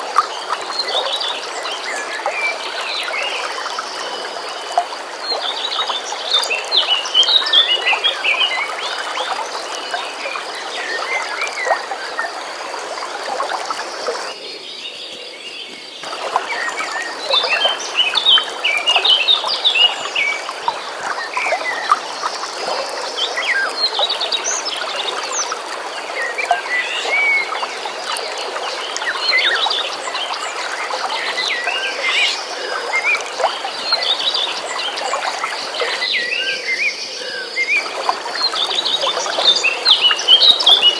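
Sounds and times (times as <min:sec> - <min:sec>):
flowing stream: 0:00.0 - 0:40.9.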